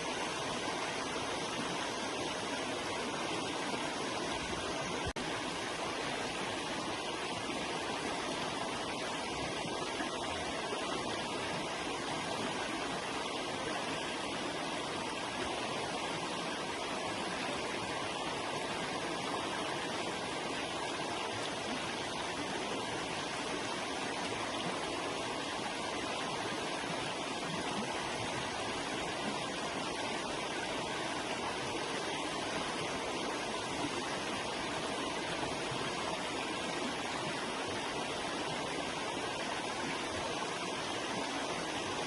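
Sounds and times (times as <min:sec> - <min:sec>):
river flowing over rocks: 0:00.0 - 0:42.0.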